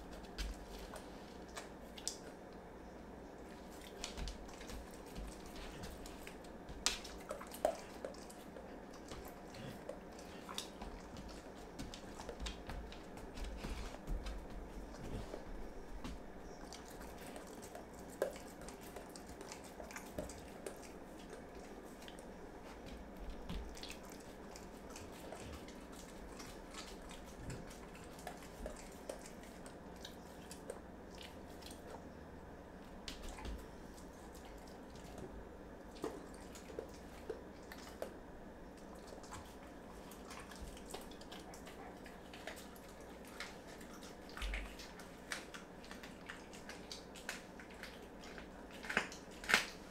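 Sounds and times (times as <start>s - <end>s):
dog licking and chewing: 3.4s - 32.0s, 33.0s - 49.9s.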